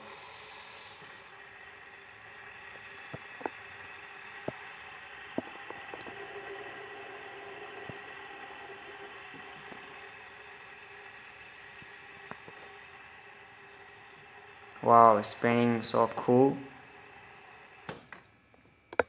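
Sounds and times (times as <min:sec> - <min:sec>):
fidget spinner whirring: 0:00.0 - 0:18.2.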